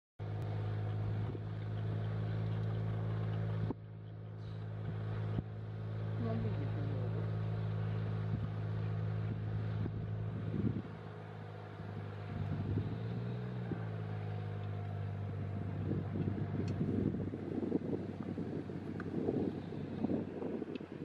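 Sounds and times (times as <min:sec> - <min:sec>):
low engine hum: 0:00.2 - 0:21.0.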